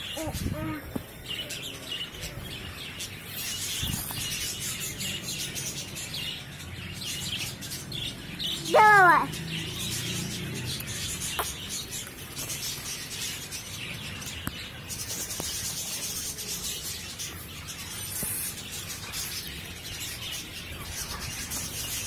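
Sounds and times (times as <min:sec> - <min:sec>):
birds chirping and cheeping: 0:00.0 - 0:22.0.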